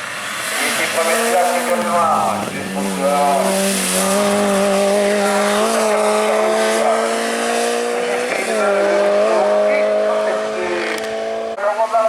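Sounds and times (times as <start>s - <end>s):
racing car engine pulling hard: 0.0s - 11.6s.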